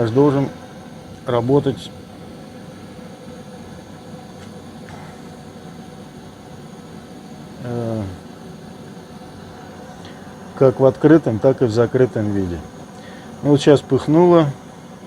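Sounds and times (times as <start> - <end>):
fire burning with rushing noise: 0.0 - 15.0.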